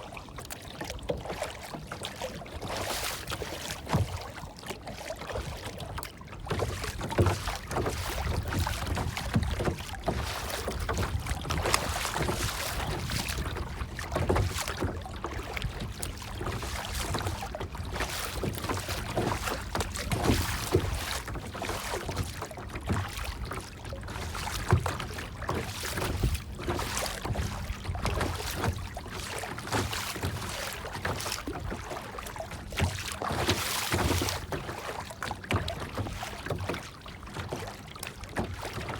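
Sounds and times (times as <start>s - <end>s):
water splashing and lapping: 0.0s - 38.9s.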